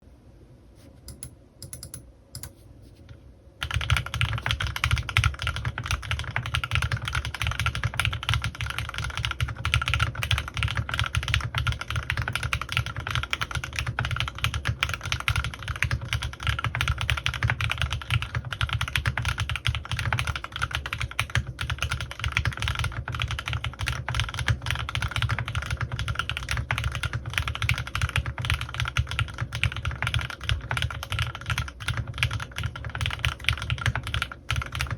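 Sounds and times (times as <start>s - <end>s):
mechanical keyboard typing: 1.1s - 2.5s, 3.6s - 34.9s.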